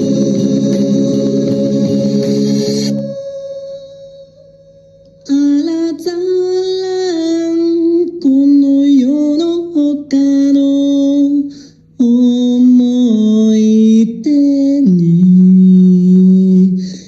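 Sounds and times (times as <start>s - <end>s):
person singing long notes: 0.0s - 17.0s
quiet musical backing: 0.0s - 17.0s.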